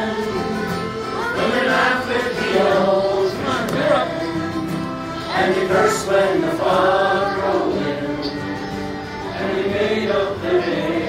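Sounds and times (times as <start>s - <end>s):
accordion: 0.0s - 11.0s
acoustic guitar: 0.0s - 11.0s
group singing folk song: 0.0s - 11.0s.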